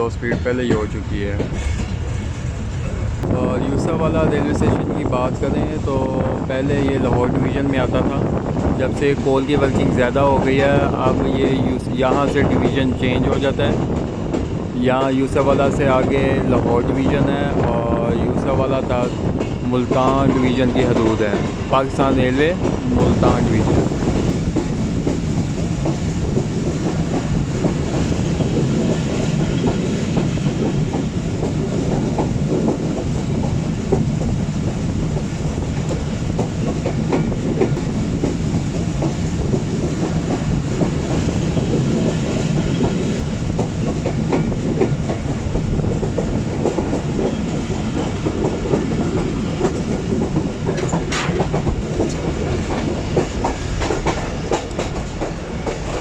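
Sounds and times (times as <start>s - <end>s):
train clickety-clack: 0.0s - 56.0s
train wheels rumbling on rails: 0.0s - 56.0s.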